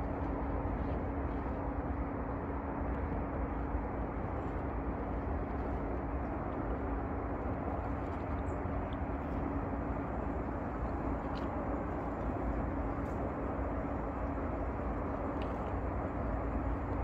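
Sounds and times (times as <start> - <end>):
faint constant hum: 0.0 - 17.0
outdoor rumble and hiss: 0.0 - 17.0.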